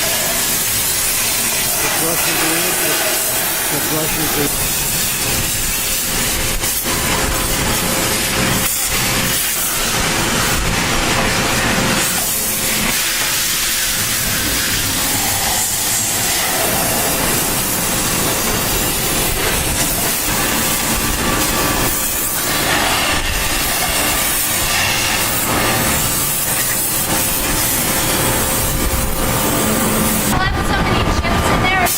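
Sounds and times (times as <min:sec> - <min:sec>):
steam cleaner hissing: 0:00.0 - 0:31.9.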